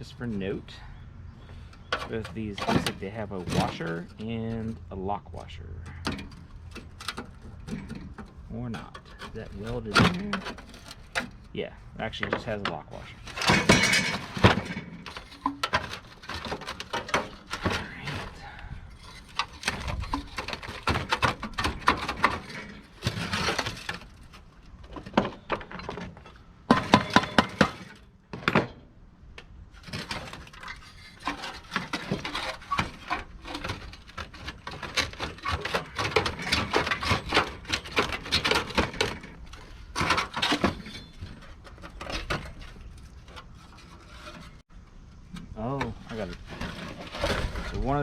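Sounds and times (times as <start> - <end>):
metal scraping on metal: 0.0 - 28.6, 29.7 - 48.0
hand tools clicking and knocking: 1.4 - 5.0, 5.8 - 28.8, 29.4 - 44.6.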